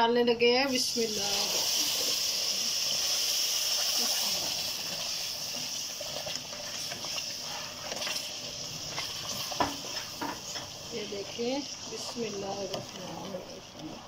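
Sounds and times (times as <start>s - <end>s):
water hissing in hot fat: 0.7s - 14.0s.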